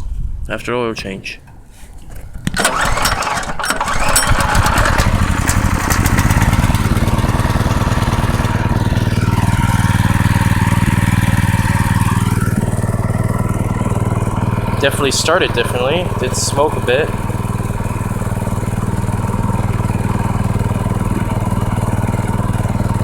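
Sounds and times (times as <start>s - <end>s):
small engine starting and running: 2.5s - 23.0s.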